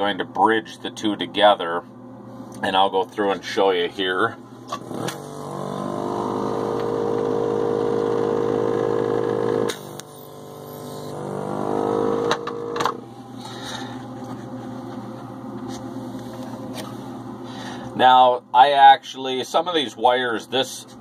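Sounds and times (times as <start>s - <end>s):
vacuum pump whine: 0.0s - 21.0s.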